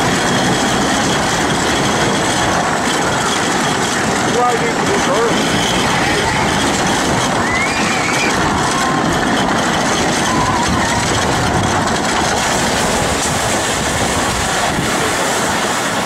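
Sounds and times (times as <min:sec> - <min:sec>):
roller coaster wheels rumbling on rails: 0:00.0 - 0:16.0.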